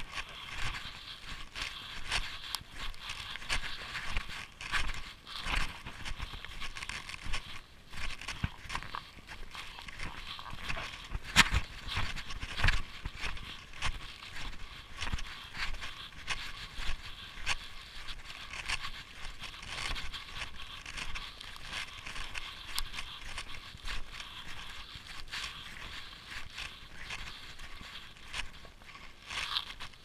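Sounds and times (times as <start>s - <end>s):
snowshoe steps crunching on snow: 0.0s - 30.0s.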